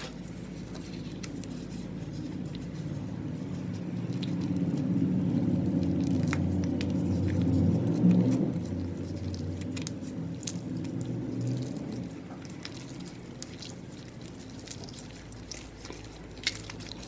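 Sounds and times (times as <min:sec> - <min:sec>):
slime squishing: 0:00.0 - 0:17.0.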